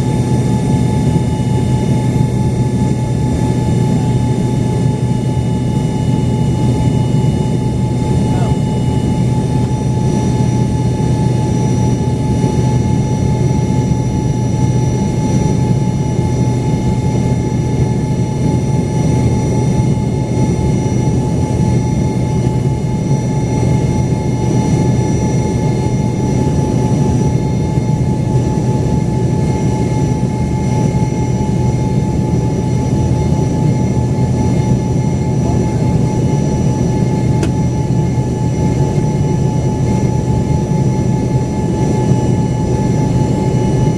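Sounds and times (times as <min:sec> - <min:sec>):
jet cabin engine drone: 0:00.0 - 0:43.9.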